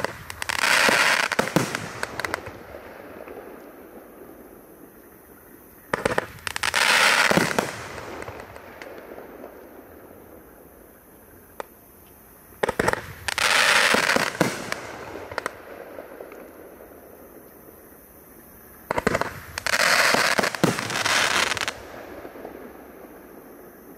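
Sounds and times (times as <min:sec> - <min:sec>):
firework crackle: 0:00.0 - 0:05.2, 0:05.8 - 0:10.9, 0:12.6 - 0:17.4, 0:18.9 - 0:23.9.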